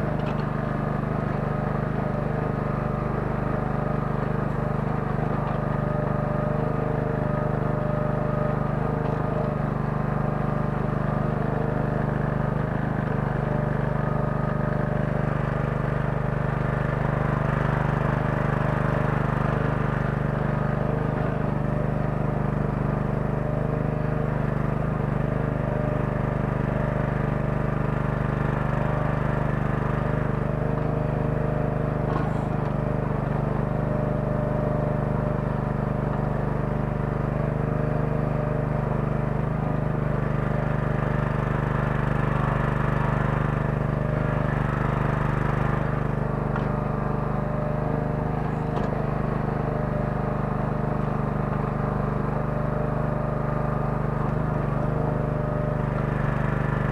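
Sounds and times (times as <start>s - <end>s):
small excavator engine droning: 0.0s - 56.9s.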